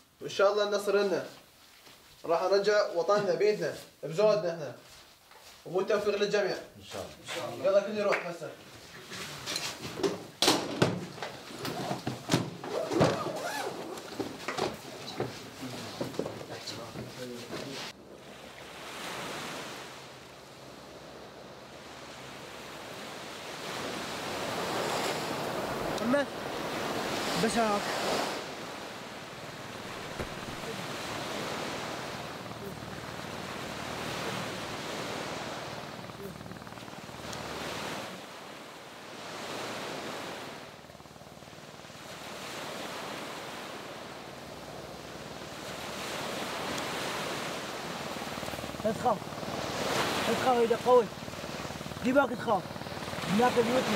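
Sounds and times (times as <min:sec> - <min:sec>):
sea surf washing in: 0:09.2 - 0:40.9, 0:41.6 - 0:53.9.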